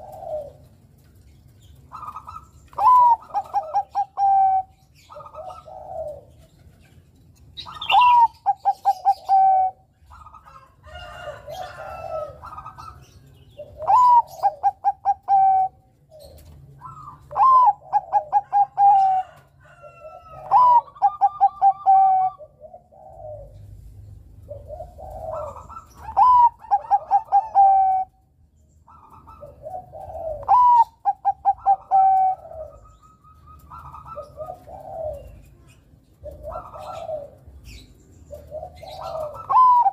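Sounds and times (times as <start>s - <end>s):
soft low dove coos: 0.0s - 0.8s, 2.0s - 6.5s, 11.4s - 28.2s, 29.2s - 39.9s
dove cooing song: 0.0s - 39.9s.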